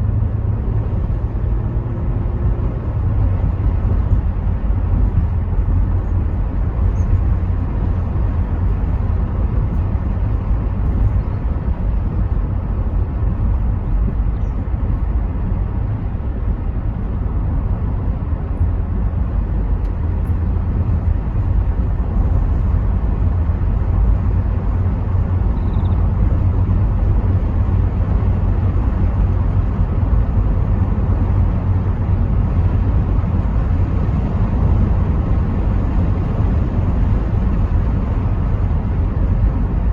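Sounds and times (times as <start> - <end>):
car engine and road rumble: 0.0 - 39.9
tyre and wind noise: 0.0 - 39.9.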